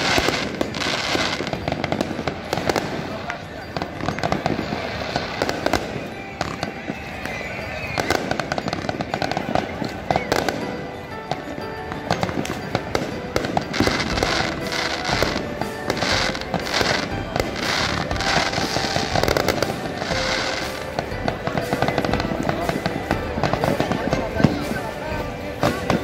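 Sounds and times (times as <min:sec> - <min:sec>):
fireworks bursting: 0:00.0 - 0:26.0
fireworks crackling: 0:00.0 - 0:26.0
music: 0:00.0 - 0:26.0.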